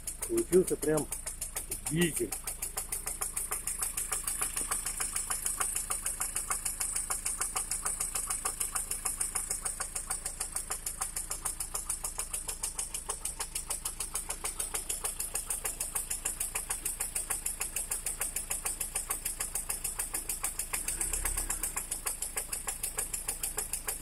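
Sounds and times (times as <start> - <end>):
car engine idling with knocking: 0.0 - 24.0.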